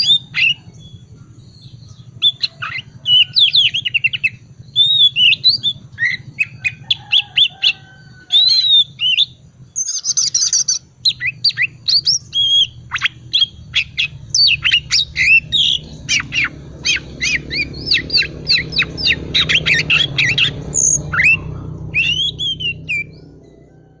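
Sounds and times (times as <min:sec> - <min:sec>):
magpie-robin singing: 0:00.0 - 0:23.7.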